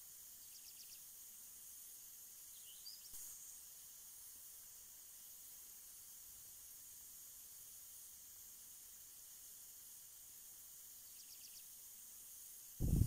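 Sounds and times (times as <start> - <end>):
sprinkler spray hiss: 0.0 - 13.0.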